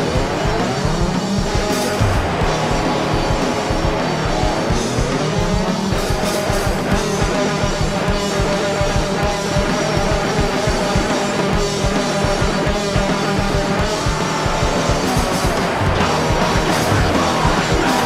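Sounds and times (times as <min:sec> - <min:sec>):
distorted electric guitars: 0:00.0 - 0:18.0
drum kit fast beat: 0:00.0 - 0:18.0.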